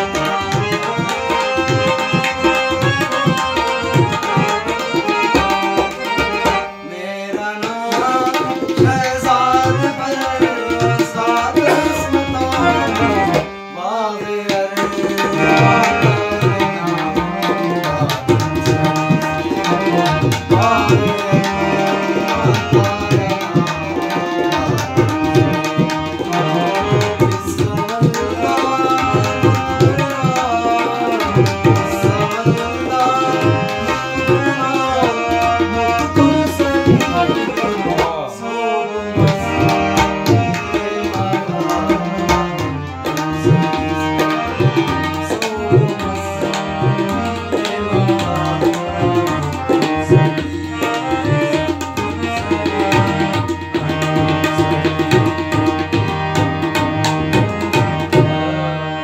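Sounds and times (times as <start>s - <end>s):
harmonium melody: 0.0s - 59.0s.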